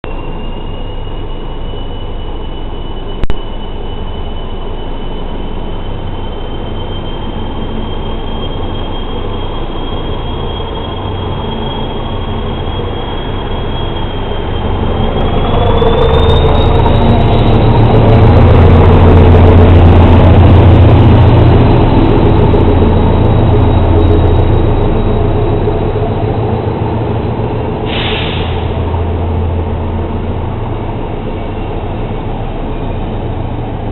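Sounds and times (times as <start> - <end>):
diesel locomotive engine drone: 0.0 - 33.9
thin squeal rising in pitch: 0.1 - 33.9.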